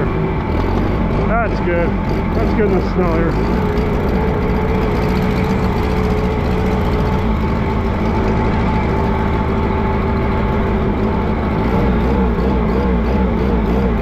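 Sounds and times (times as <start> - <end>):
steady whine: 0.0 - 14.0
tractor engine running: 0.0 - 14.0.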